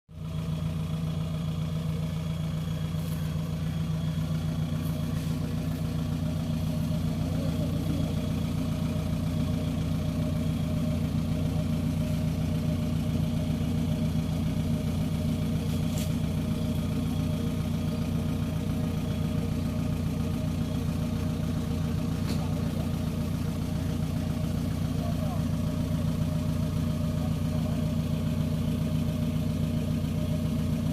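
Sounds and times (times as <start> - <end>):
diesel engine running steadily: 0.1 - 30.9.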